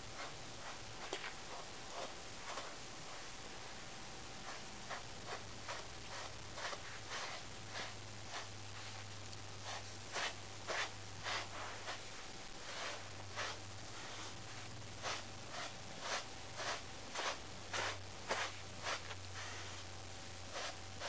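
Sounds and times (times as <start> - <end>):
brush strokes through cat fur: 0.0 - 3.4, 4.3 - 21.0.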